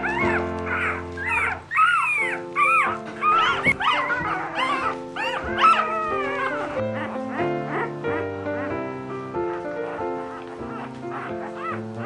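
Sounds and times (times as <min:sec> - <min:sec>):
background music: 0:00.0 - 0:12.0
puppies squeaking and whimpering: 0:00.0 - 0:12.0.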